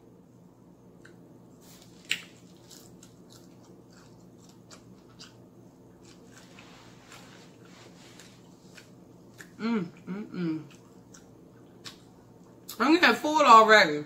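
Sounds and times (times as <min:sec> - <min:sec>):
person chewing food: 0:01.0 - 0:12.7.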